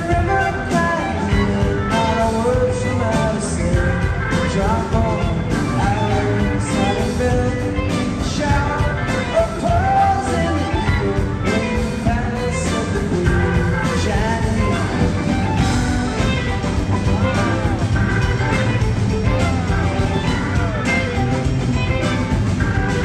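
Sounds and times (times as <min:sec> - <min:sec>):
live rock band: 0:00.0 - 0:23.0
person singing: 0:00.0 - 0:23.0.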